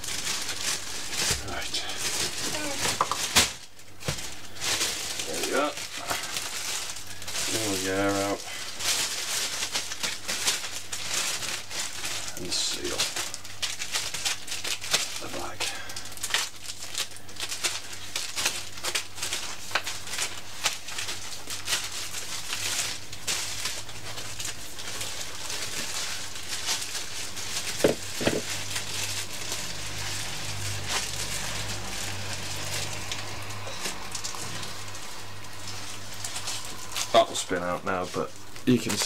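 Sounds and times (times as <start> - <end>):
plastic bag crinkling: 0.0 - 39.0.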